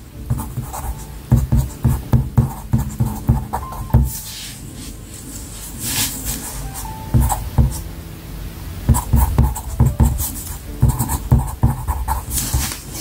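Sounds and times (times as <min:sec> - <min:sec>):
pencil scratching on paper: 0:00.3 - 0:07.8, 0:08.9 - 0:13.0.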